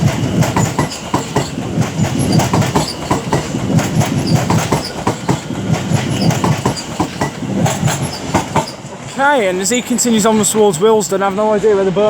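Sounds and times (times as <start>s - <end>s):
train wheels clicking over rails: 0.0s - 11.6s
low train rumble: 0.0s - 12.0s.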